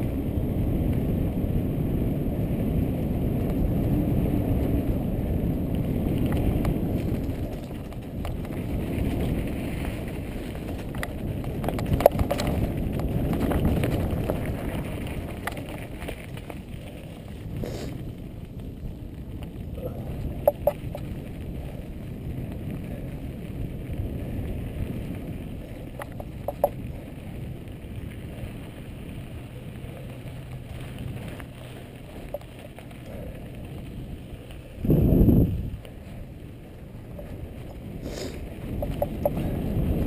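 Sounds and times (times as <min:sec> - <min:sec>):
bike clicks and rattles: 0:00.0 - 0:40.0
bike tyres rumbling on dirt: 0:00.0 - 0:40.0
wind on microphone: 0:00.0 - 0:40.0.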